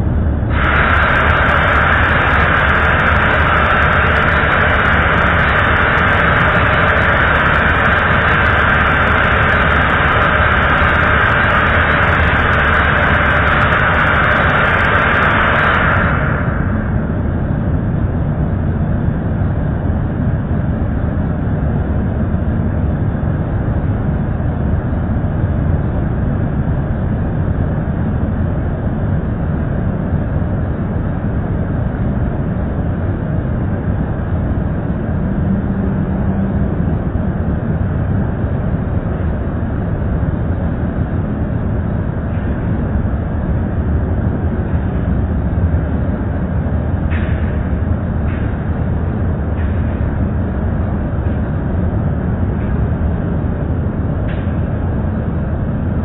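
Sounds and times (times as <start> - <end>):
machinery rumbling: 0.0 - 56.0.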